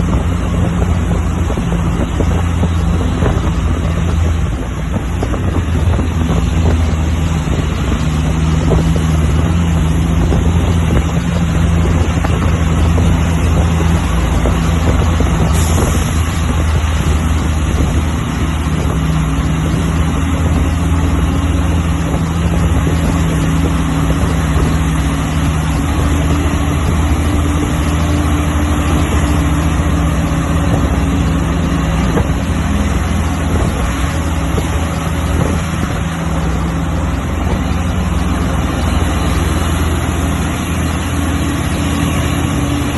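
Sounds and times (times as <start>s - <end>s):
diesel truck engine running: 0.0s - 42.9s
road and wind noise: 0.0s - 42.9s.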